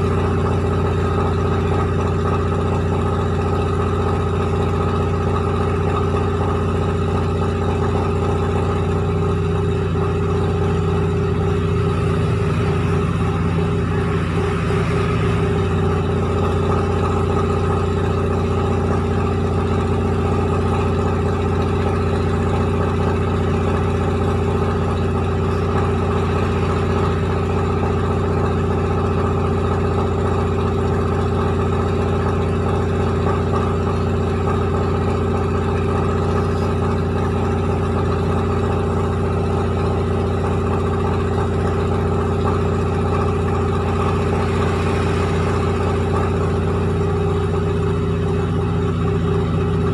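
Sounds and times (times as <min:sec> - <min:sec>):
rice milling machine running: 0:00.0 - 0:49.9.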